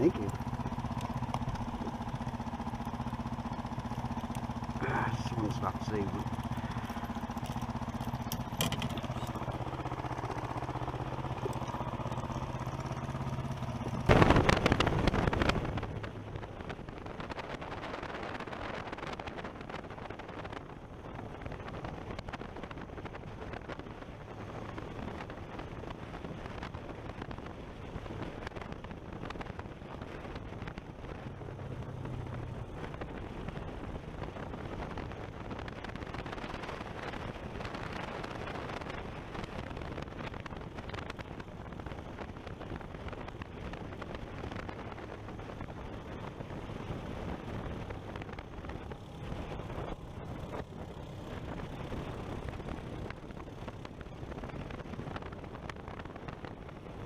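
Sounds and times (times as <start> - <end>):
small engine humming: 0.0 - 57.0
wind noise: 0.0 - 57.0.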